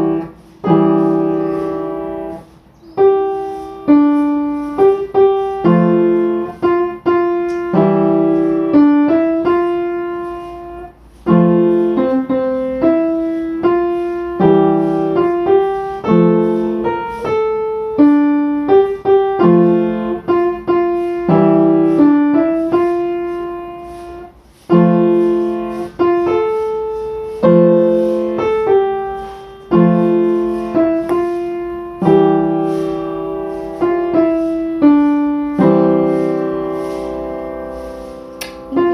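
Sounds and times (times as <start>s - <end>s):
slow solo piano: 0.0s - 38.9s.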